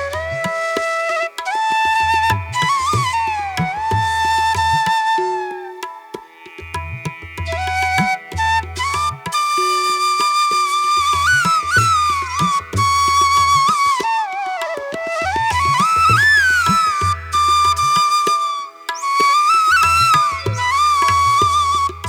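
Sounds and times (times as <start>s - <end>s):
flute melody with sliding notes: 0.0s - 6.3s, 7.4s - 22.0s.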